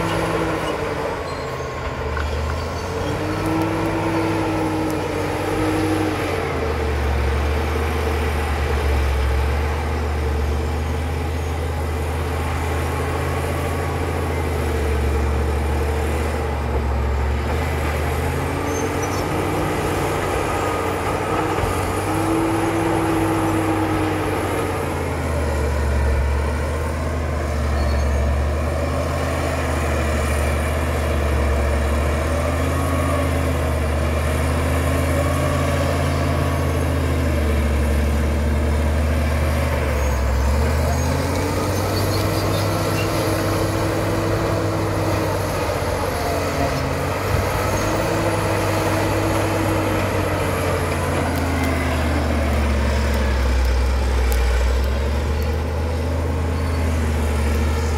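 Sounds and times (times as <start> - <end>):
bulldozer diesel engine drone: 0.0 - 57.9.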